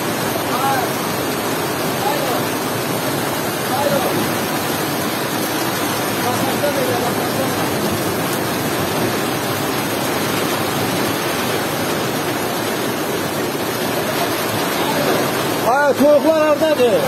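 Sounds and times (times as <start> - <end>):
heavy rain on trees and grass: 0.0 - 17.0.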